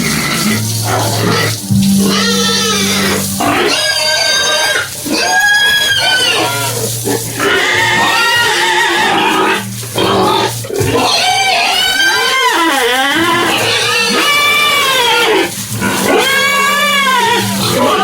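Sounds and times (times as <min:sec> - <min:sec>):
background music with low notes: 0:00.0 - 0:18.0
pigs squealing: 0:00.0 - 0:18.0.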